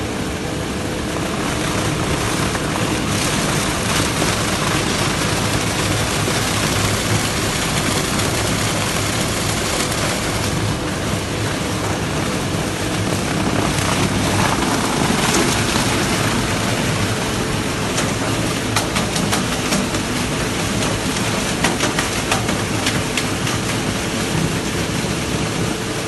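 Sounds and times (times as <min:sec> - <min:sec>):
dust remover machine running: 0:00.0 - 0:26.0.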